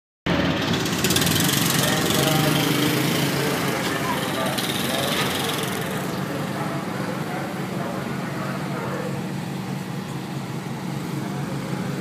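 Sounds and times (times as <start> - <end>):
dragster engine idling: 0.3 - 12.0.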